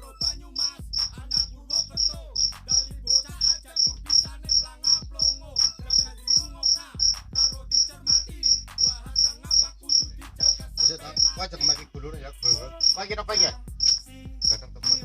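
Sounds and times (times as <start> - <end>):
cricket chirping: 1.7 - 11.4, 12.4 - 15.0.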